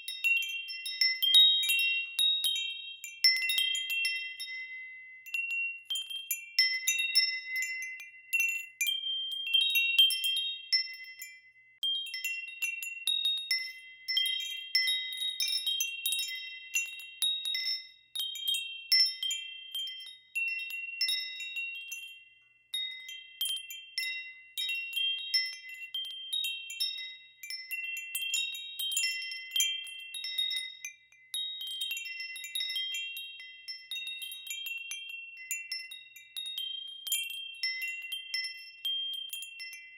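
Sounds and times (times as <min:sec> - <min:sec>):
metal wind chimes ringing: 0:00.0 - 0:39.9.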